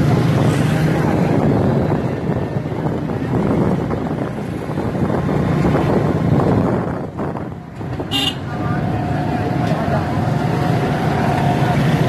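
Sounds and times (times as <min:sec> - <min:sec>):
street traffic: 0:00.0 - 0:12.0
vehicle engine: 0:00.0 - 0:12.0
wind buffeting microphone: 0:00.0 - 0:12.0.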